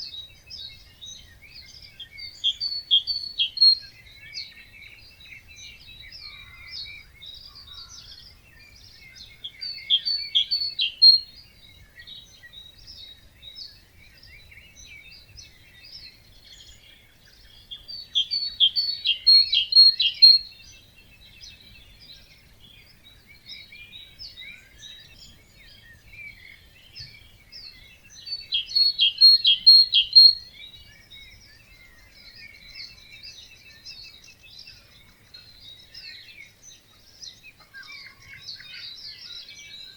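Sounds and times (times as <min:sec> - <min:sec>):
bird song of rapid high notes: 0:00.0 - 0:39.9
birds chirping: 0:00.0 - 0:39.9.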